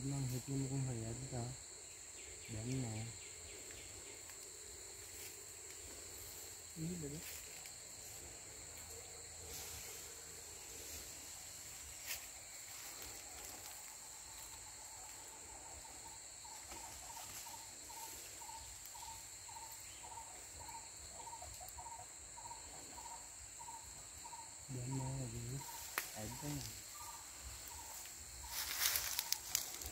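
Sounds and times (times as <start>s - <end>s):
insect chorus drone: 0.0s - 29.9s.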